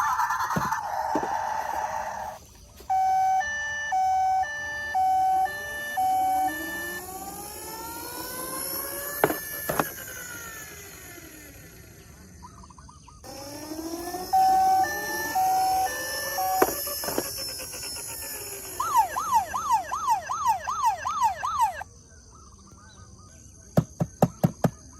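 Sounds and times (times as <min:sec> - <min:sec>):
two-tone toy siren: 0:00.0 - 0:12.3, 0:13.2 - 0:21.8
wailing toy siren: 0:00.0 - 0:12.3, 0:13.2 - 0:21.8
harsh electronic buzzing: 0:00.3 - 0:12.5, 0:13.2 - 0:21.8.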